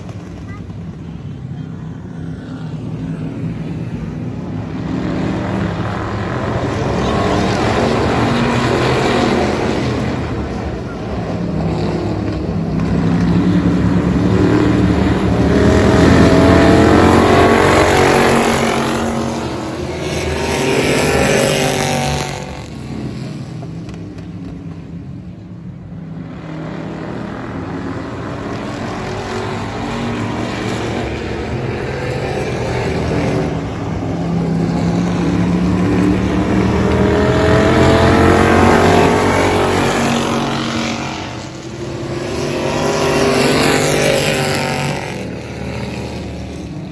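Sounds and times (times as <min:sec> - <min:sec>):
race car engines passing: 0:00.0 - 0:46.9.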